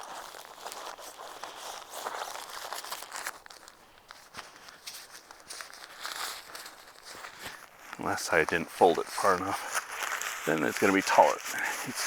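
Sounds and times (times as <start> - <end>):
sleeping mat fabric rustling: 0.0 - 12.0.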